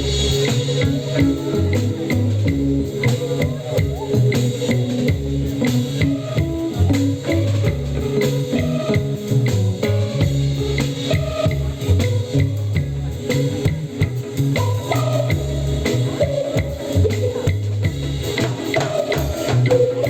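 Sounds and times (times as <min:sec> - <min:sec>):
bass guitar line: 0:00.0 - 0:20.0
guitar melody: 0:00.0 - 0:20.0
steady drum beat: 0:00.0 - 0:20.0.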